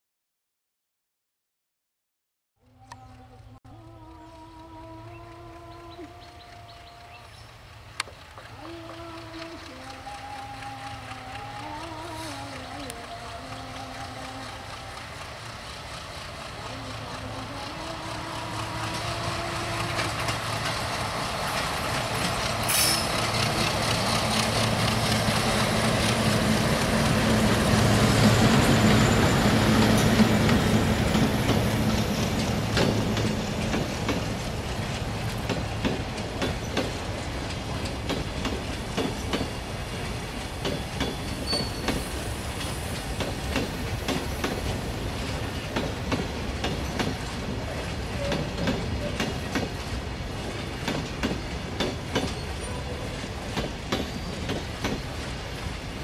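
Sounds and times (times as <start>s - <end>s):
diesel locomotive engine hum: 2.6s - 56.0s
train wheels clacking over rail joints: 5.1s - 56.0s.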